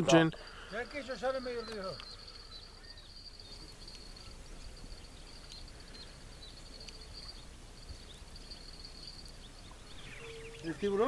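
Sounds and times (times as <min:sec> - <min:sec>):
faint insect chirps: 0:00.0 - 0:11.0
insects trilling: 0:00.0 - 0:11.0
low background noise: 0:00.0 - 0:11.0.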